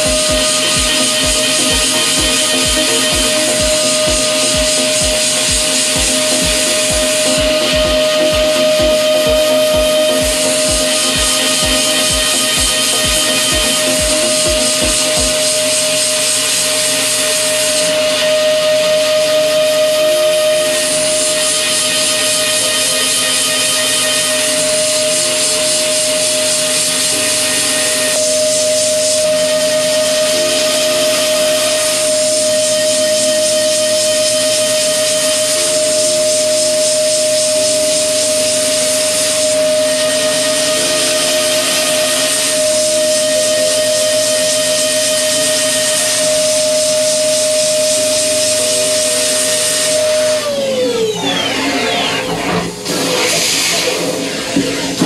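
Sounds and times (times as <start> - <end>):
milling spindle cutting metal: 0.0 - 55.0.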